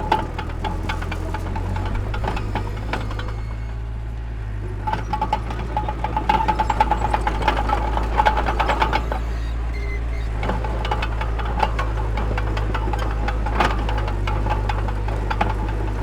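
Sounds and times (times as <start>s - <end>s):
metallic clanking and knocking: 0.0s - 3.8s, 4.6s - 16.0s
diesel machinery droning: 0.0s - 16.0s.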